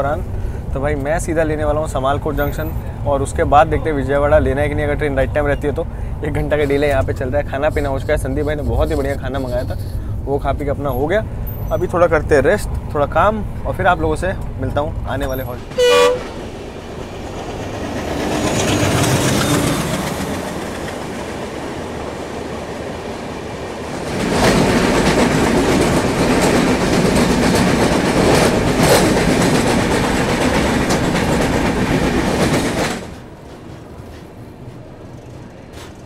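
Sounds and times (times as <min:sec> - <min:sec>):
train wheel and rail rumble: 0:00.0 - 0:36.0.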